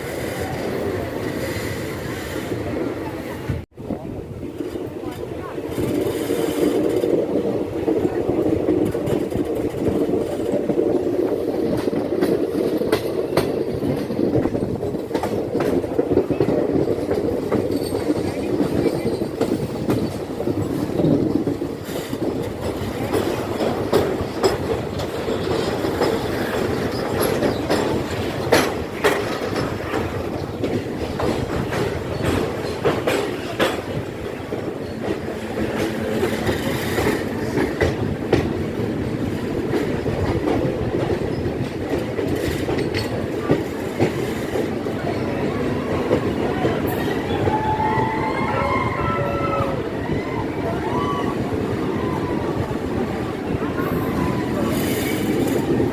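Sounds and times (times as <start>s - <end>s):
train wheels rumbling: 0.0s - 55.9s
wheels clacking over rail joints: 4.4s - 55.9s.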